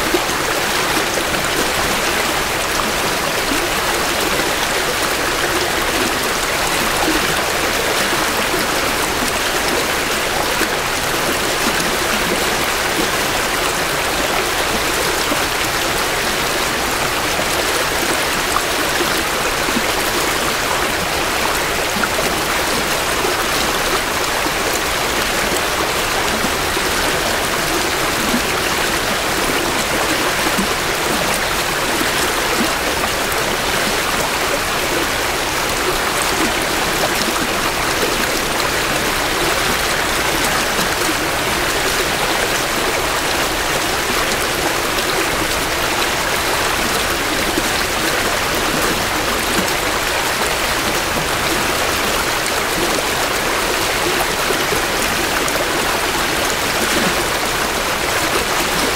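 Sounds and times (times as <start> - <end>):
creek flowing over rocks: 0.0 - 58.9.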